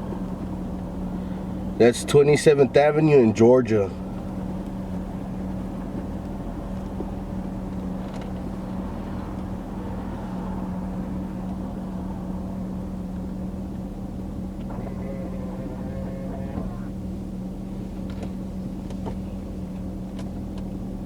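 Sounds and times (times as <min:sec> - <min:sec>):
car engine humming inside cabin: 0:00.0 - 0:21.0.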